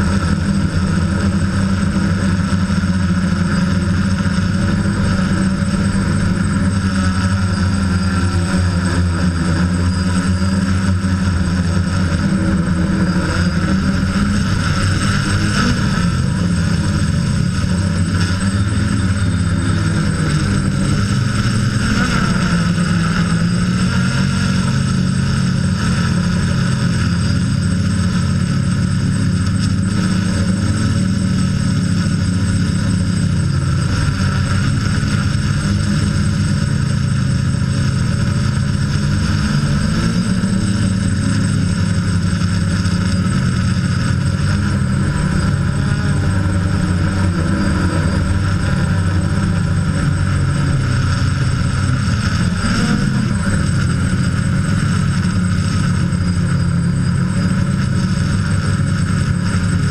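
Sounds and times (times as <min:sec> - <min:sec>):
drone motors and propellers droning: 0:00.0 - 0:59.9.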